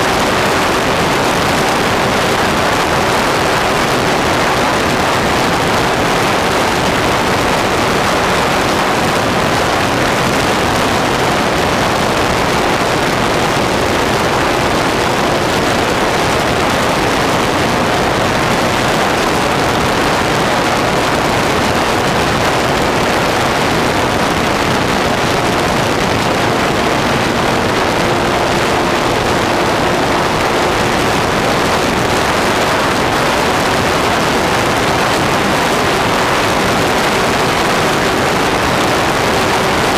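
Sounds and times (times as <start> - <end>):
airflow and propeller noise: 0.0 - 39.9.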